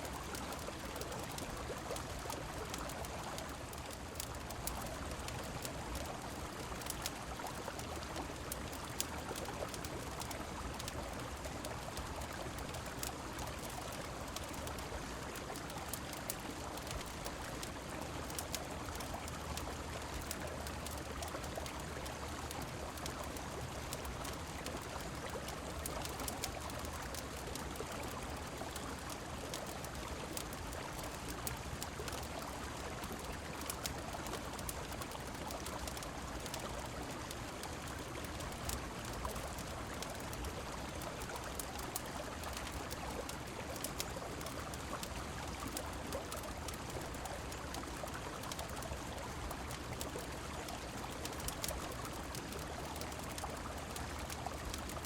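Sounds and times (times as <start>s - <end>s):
rain falling: 0.0s - 55.0s
wood fire crackling: 0.1s - 55.0s.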